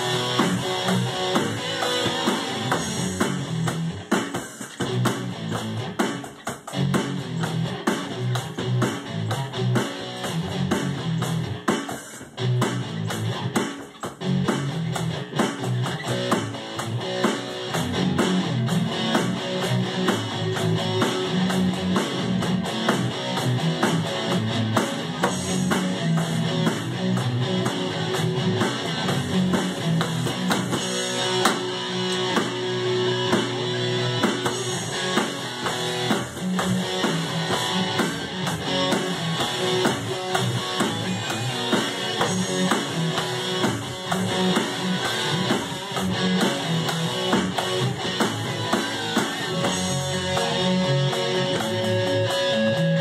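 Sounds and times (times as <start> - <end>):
electronic drum beat: 0.0 - 53.0
strummed electric guitar: 0.0 - 53.0.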